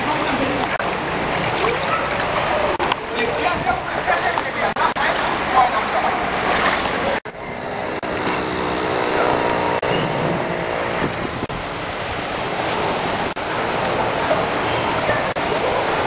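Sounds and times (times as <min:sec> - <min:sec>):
tyres swishing through water: 0:00.0 - 0:16.0.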